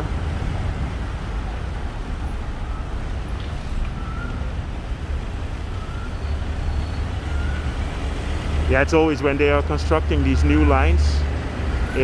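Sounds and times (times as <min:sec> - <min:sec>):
traffic engines: 0:00.0 - 0:12.0
tyres on road: 0:00.0 - 0:12.0.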